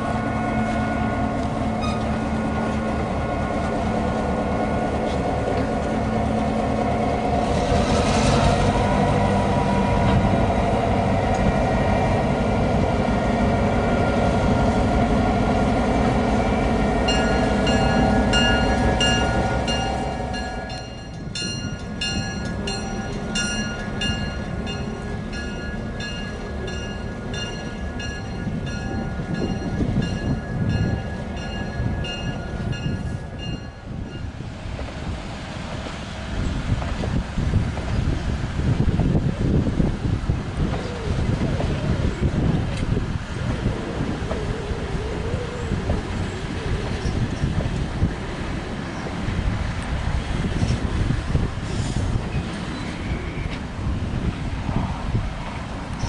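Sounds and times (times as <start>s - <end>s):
diesel locomotive running: 0.0s - 56.0s.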